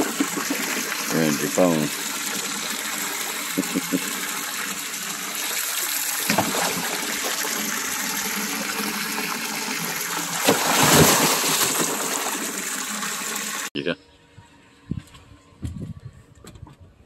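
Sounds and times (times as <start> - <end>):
water rushing and splashing: 0.0 - 13.7.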